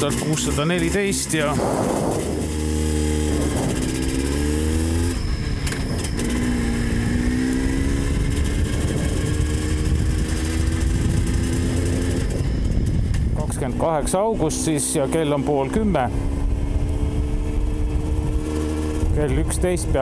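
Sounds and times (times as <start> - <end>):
vehicle engine accelerating: 0.0 - 20.0.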